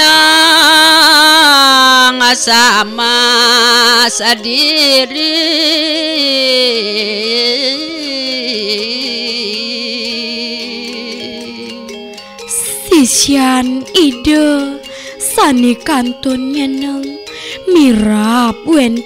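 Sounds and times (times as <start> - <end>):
woman singing with vibrato: 0.0 - 19.0.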